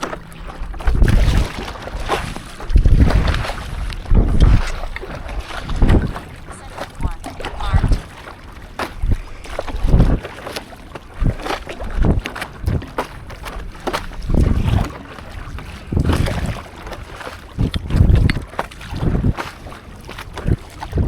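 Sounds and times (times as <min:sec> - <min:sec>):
paddle splashing in water: 0:00.0 - 0:21.0
wind on microphone: 0:00.0 - 0:21.0.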